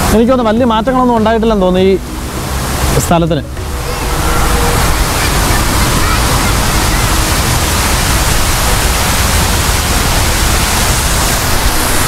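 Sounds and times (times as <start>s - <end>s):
water cascading from fountain: 0.0s - 12.0s.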